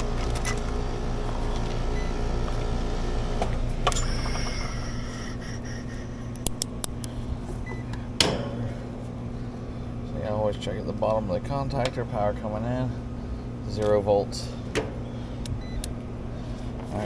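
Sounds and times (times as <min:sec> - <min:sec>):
air conditioner units humming: 0:00.0 - 0:17.0.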